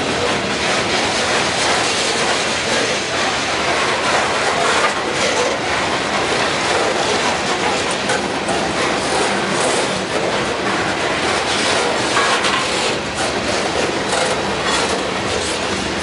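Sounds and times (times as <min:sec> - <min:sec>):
train wheels rumbling on rails: 0:00.0 - 0:16.0
wheels clacking over rail joints: 0:00.0 - 0:16.0.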